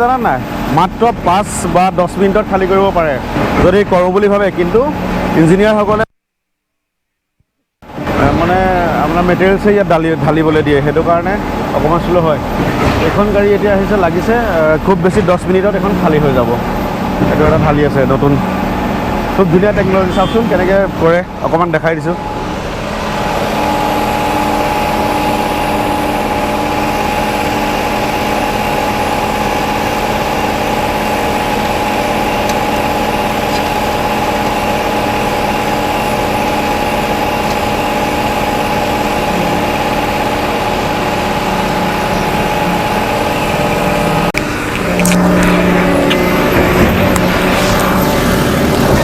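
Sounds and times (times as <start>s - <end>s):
diesel engine humming: 0.0s - 6.0s, 7.8s - 49.0s.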